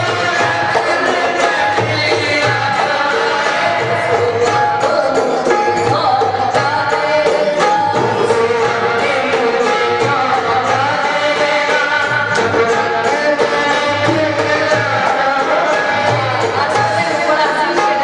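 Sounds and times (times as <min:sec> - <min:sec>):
tabla drum strokes: 0:00.0 - 0:18.0
woman singing: 0:00.0 - 0:18.0.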